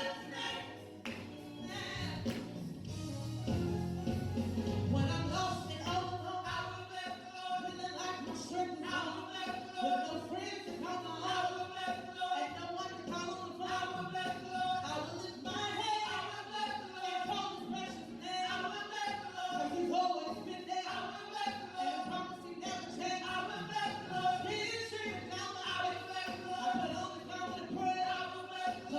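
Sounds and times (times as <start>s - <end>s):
group singing gospel song: 0.0s - 28.9s.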